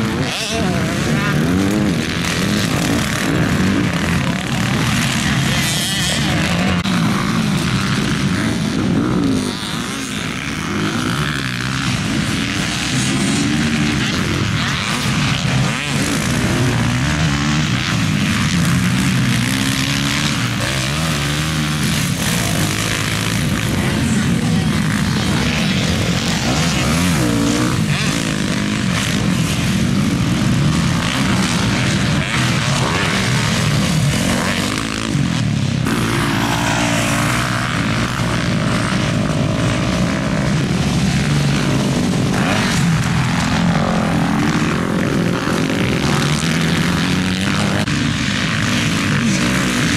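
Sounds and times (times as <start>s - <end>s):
motocross bike engines revving: 0.0s - 49.9s.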